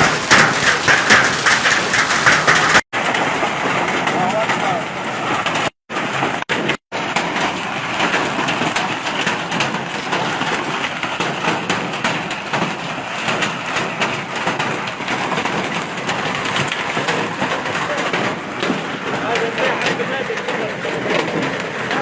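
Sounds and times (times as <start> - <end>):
hailstones clattering: 0.0 - 22.0.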